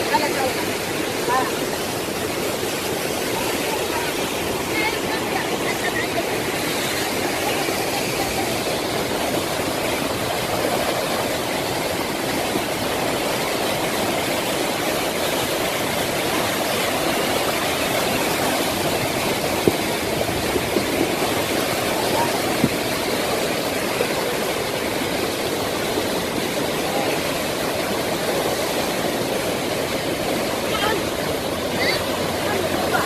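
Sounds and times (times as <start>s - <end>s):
flood water rushing: 0.0s - 33.0s.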